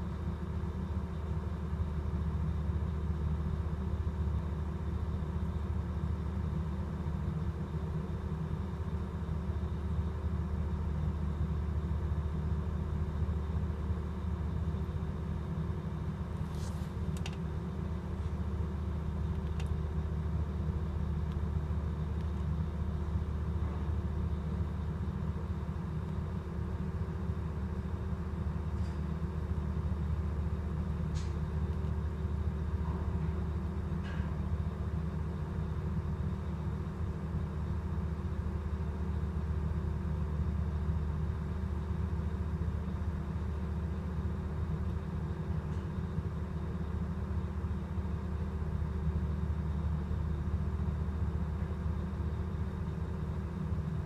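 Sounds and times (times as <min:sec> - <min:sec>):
diesel machinery droning: 0:00.0 - 0:54.0.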